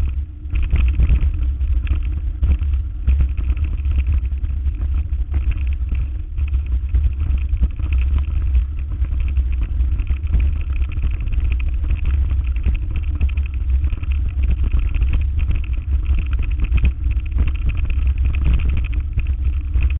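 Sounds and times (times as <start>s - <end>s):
vehicle low rumble with knocks: 0.0s - 19.9s.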